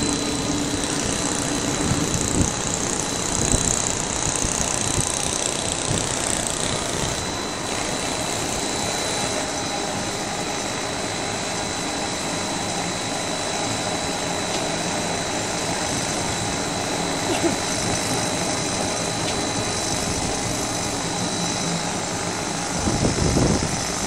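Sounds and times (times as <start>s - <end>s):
high steady whine: 0.0s - 24.0s
stone-cutting chain saw running: 0.0s - 24.0s.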